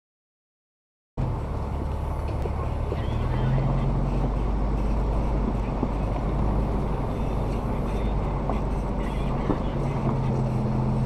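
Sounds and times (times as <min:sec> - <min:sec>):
off-road vehicle engine rumbling: 0:01.2 - 0:11.0.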